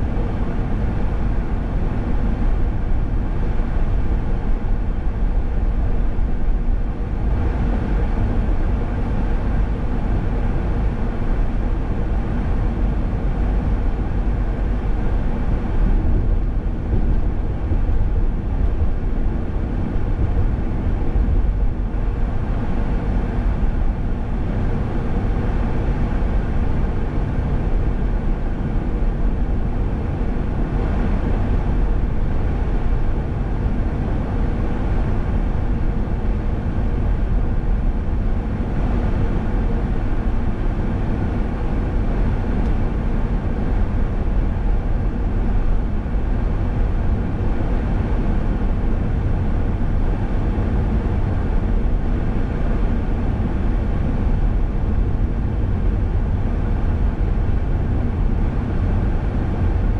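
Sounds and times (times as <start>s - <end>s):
car engine noise: 0.0s - 59.9s.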